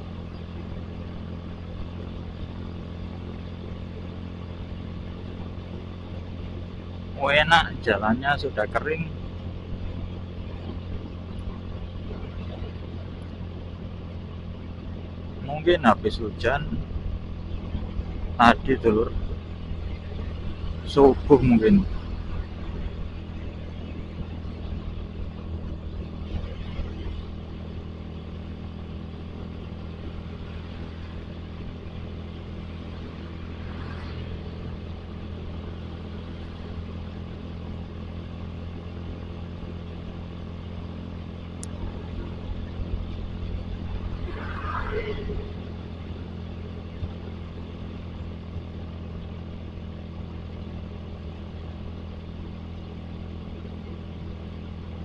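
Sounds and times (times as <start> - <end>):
motorcycle engine cruising: 0.0 - 55.0
road noise: 0.0 - 55.0.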